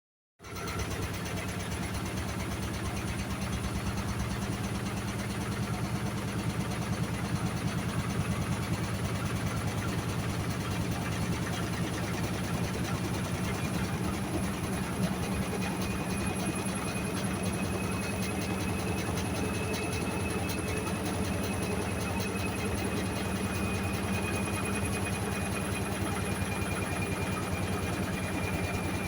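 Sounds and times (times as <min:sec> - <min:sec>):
washing machine motor pulsing hum: 0:00.8 - 0:29.0.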